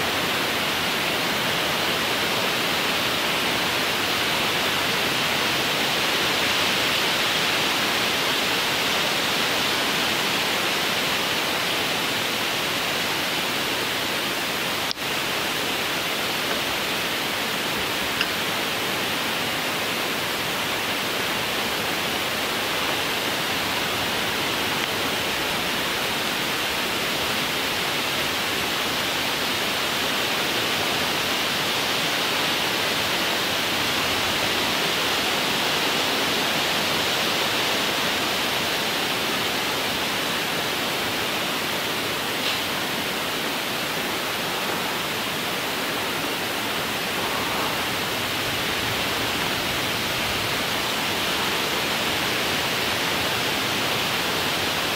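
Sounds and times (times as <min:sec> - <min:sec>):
wind rustling through treetops: 0:00.0 - 0:54.9.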